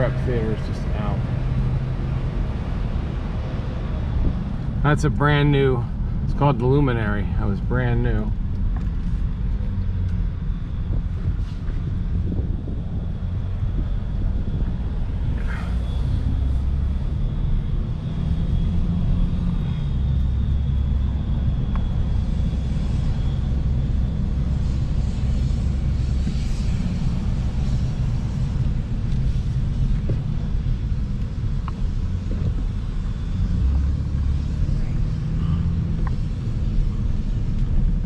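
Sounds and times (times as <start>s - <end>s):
car driving rumble: 0.0s - 38.0s.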